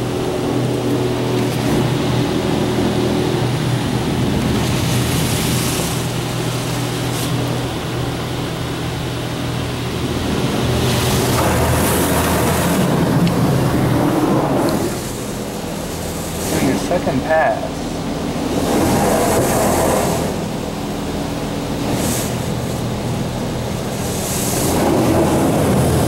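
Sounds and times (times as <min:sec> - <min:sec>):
steady low hum: 0:00.0 - 0:26.0
water jets spraying on car: 0:00.0 - 0:26.0.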